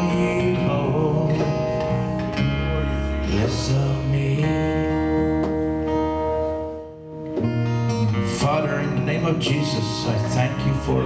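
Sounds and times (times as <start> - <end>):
acoustic guitar chords: 0.0 - 11.0
electric bass: 0.0 - 11.0.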